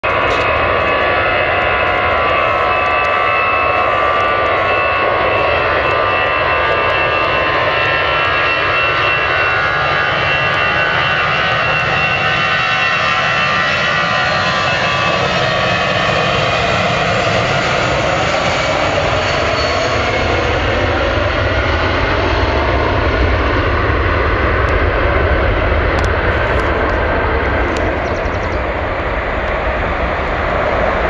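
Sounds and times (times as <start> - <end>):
jet engines running: 0.0 - 31.0.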